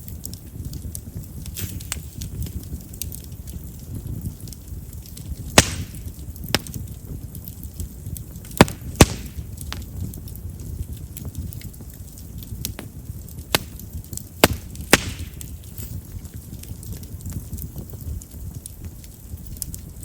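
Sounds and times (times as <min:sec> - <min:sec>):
fire rumbling: 0:00.0 - 0:20.0
wood crackling and popping: 0:00.0 - 0:20.0.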